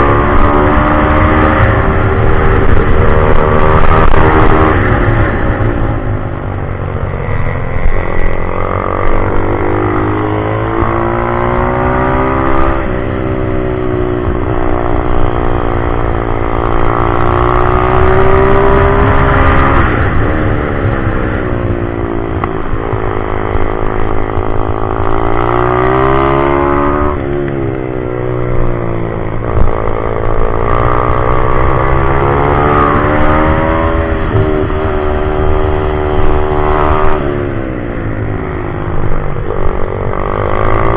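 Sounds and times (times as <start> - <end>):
pit bike engine revving: 0.0 - 6.2, 6.9 - 27.5, 28.3 - 40.9.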